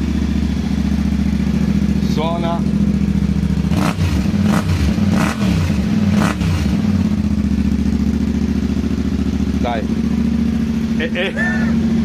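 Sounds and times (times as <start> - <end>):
motorcycle engine idling and blipped: 0.0 - 12.0.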